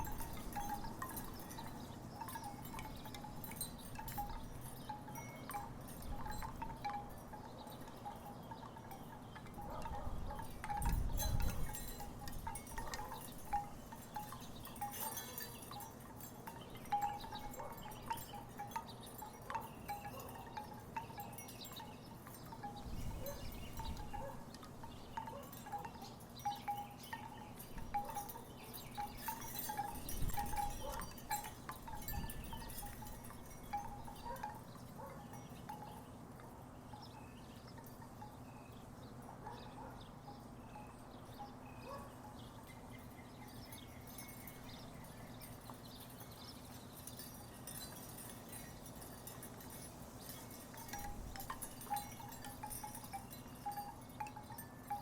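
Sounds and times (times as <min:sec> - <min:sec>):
wooden wind chimes clonking: 0:00.0 - 0:55.0.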